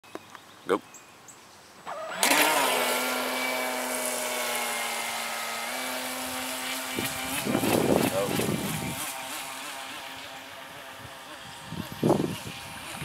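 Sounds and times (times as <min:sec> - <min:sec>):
electric motor whine: 0:01.9 - 0:13.0.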